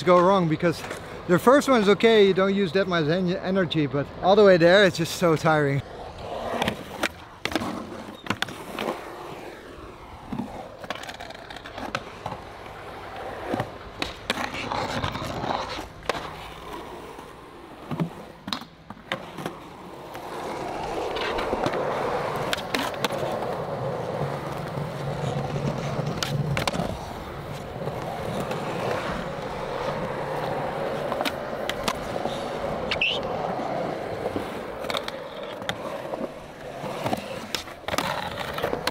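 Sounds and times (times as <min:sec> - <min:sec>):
skateboard wheels rolling: 0:00.0 - 0:38.9
skateboard clacks: 0:06.5 - 0:38.9.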